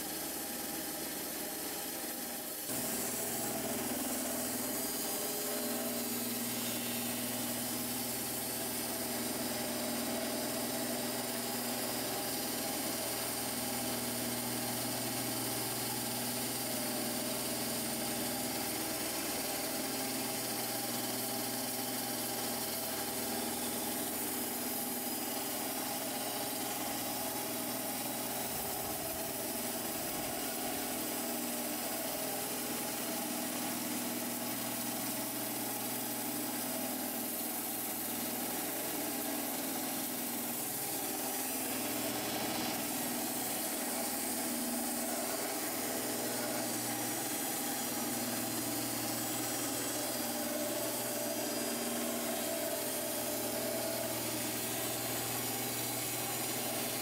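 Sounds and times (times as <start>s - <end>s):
band sawmill blade sawing log: 0.0s - 57.0s.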